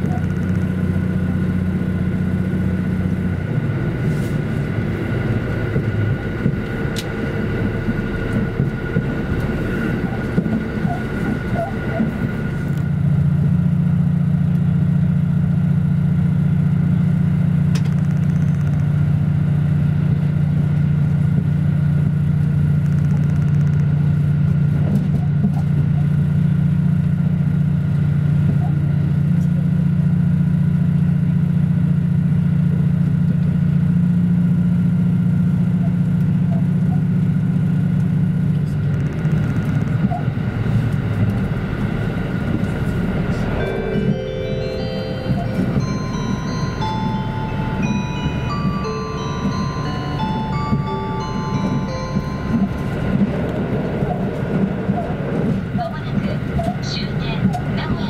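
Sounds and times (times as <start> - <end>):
diesel engine drone: 0.0 - 58.0
train wheels rumbling on rails: 0.0 - 58.0.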